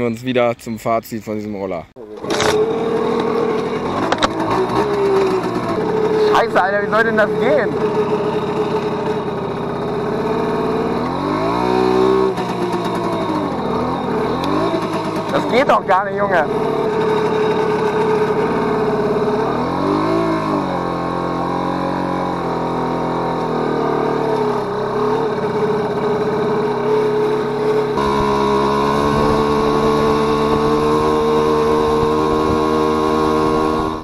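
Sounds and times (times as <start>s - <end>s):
motorcycle engine under load: 2.0s - 34.0s.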